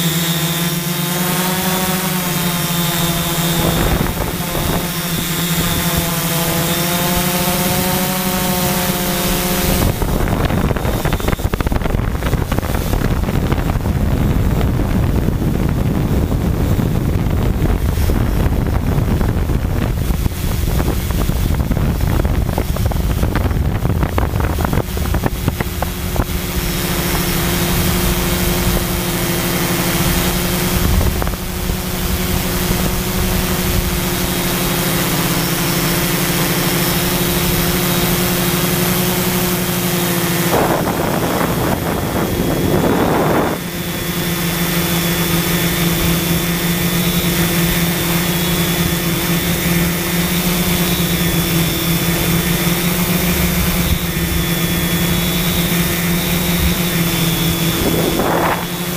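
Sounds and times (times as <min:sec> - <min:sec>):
drone propellers humming: 0:00.0 - 0:58.9
wind buffeting microphone: 0:00.6 - 0:58.9.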